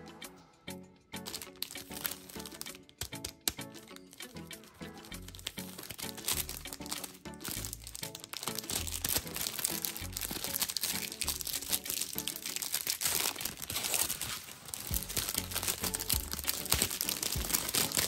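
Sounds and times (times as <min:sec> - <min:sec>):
light background music with bass: 0:00.0 - 0:18.0
plastic wrappers crinkling and tearing: 0:01.2 - 0:04.4, 0:05.0 - 0:18.0.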